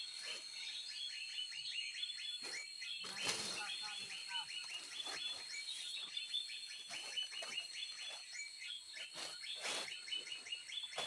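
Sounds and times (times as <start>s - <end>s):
frogs or insects chirping: 0.0s - 11.0s.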